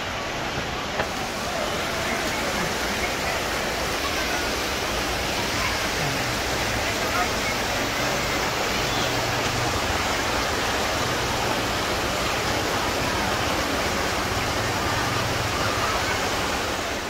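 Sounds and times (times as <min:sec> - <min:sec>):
river rushing over boulders: 0:00.0 - 0:17.0.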